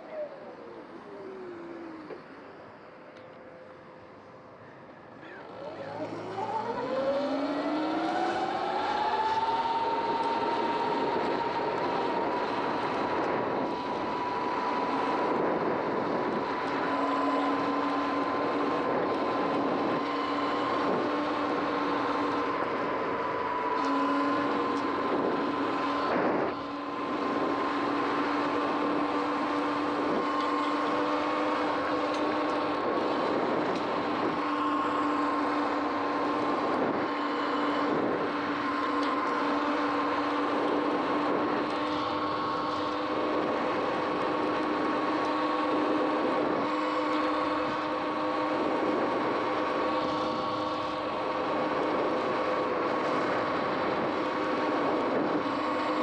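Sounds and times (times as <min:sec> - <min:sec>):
continuous rushing noise: 0:00.0 - 0:56.0
electric motor whine: 0:05.0 - 0:56.0.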